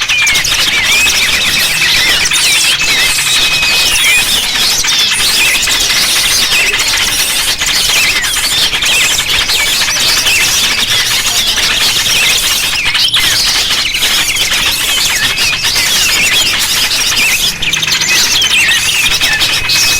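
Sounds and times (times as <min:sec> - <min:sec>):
small songbirds chirping: 0:00.0 - 0:19.9.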